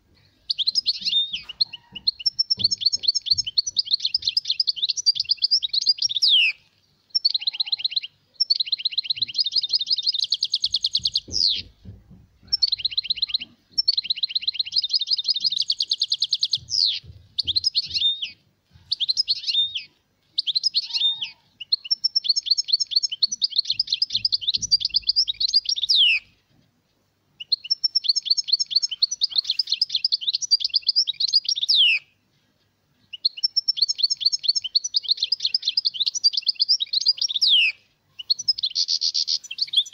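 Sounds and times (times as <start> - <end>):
goldfinch singing trills: 0.3 - 26.3, 27.4 - 32.1, 33.1 - 39.9.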